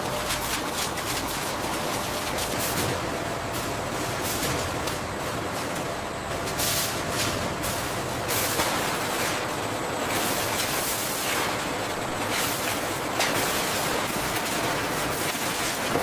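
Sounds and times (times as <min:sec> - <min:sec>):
packaging machinery and conveyors: 0:00.0 - 0:16.0.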